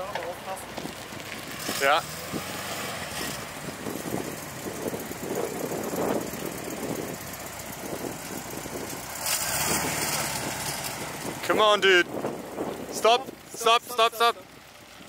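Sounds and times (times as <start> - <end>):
van engine running at low revs: 0.0 - 15.0.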